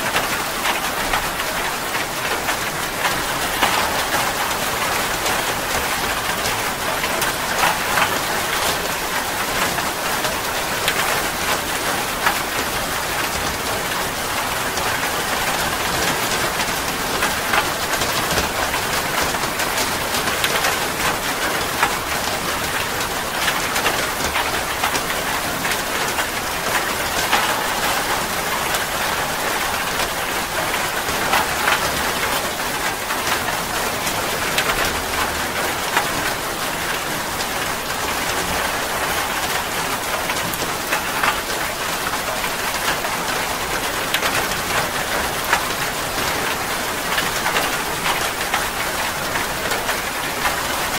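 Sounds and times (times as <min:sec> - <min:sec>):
heavy rain falling: 0:00.0 - 0:50.9
close raindrops ticking: 0:00.1 - 0:50.9.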